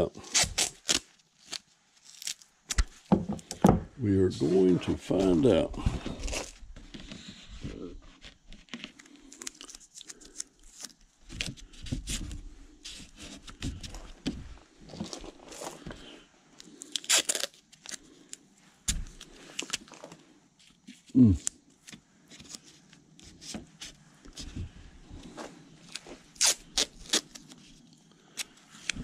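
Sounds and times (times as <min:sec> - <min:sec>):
rustling and crinkling: 0:00.2 - 0:29.0.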